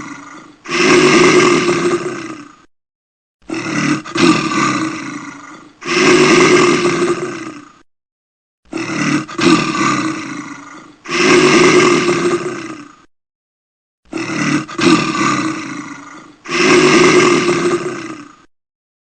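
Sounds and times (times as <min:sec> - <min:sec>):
large animal roaring: 0:00.0 - 0:02.7, 0:03.4 - 0:07.8, 0:08.7 - 0:13.1, 0:14.1 - 0:18.5.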